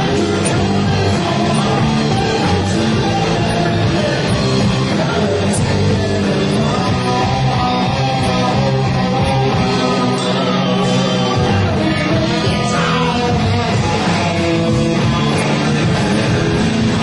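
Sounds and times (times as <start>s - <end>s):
bass guitar: 0.0s - 17.0s
electric guitar: 0.0s - 17.0s.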